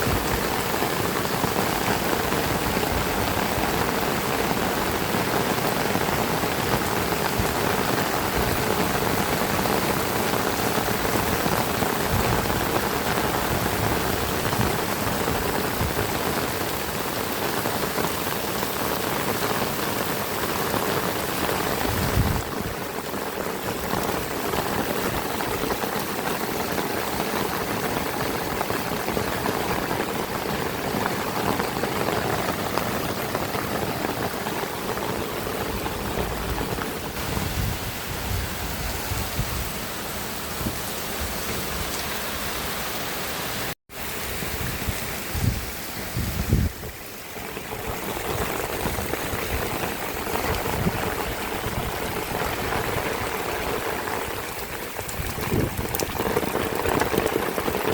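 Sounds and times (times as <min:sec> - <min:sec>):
heavy rain hissing: 0:00.0 - 0:57.9.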